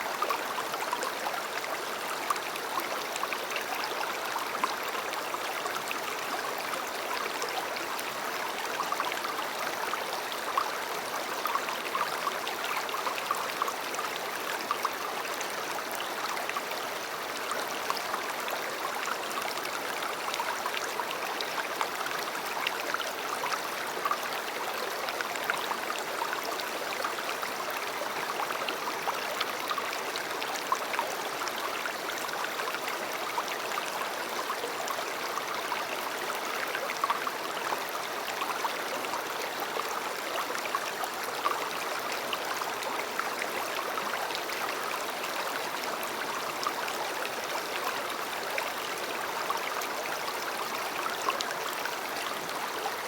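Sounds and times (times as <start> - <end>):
river water flowing over stones: 0.0 - 53.0.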